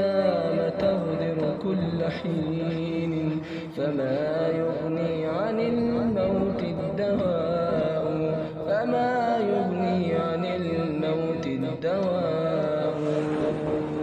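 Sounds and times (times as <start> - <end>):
layered wordless voices droning: 0.0 - 14.0.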